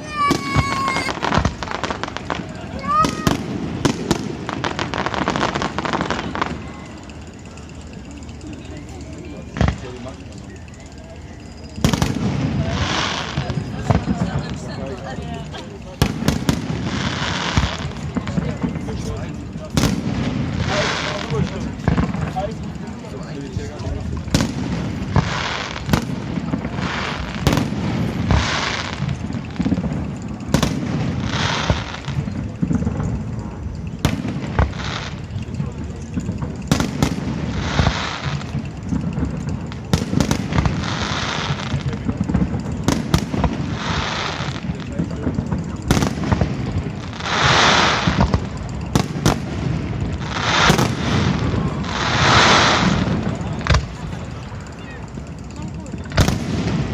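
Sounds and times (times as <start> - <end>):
firework bangs: 0.0 - 8.4, 9.2 - 56.9
crackling hiss: 0.0 - 56.9.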